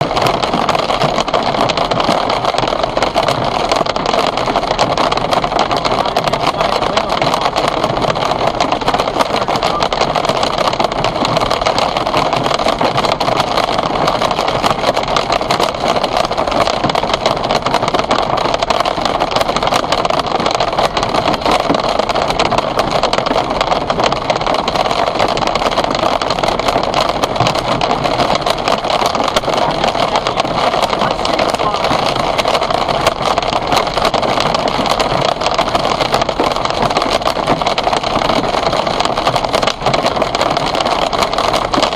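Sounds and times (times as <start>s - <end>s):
hailstones clattering: 0.0s - 41.9s.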